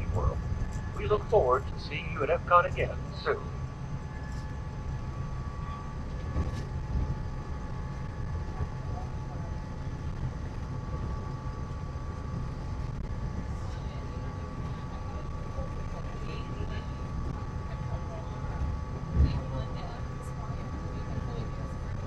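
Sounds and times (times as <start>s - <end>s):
monorail train rumbling and whining: 0.0s - 22.0s.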